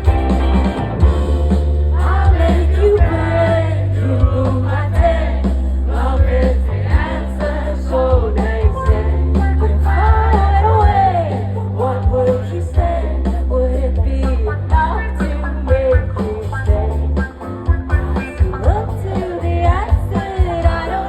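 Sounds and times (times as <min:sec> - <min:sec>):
guitars: 0:00.0 - 0:21.0
live band playing: 0:00.0 - 0:21.0
low bass: 0:00.0 - 0:21.0.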